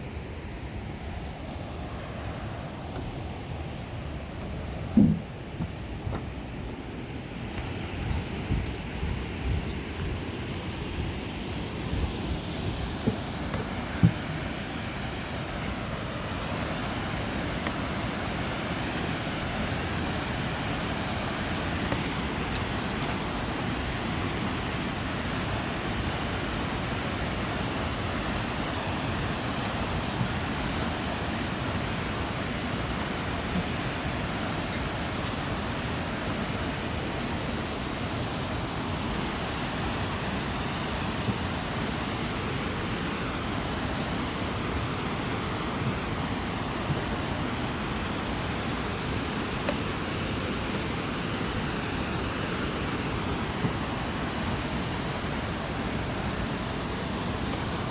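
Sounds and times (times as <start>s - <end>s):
waterfall rushing: 10.0s - 57.9s.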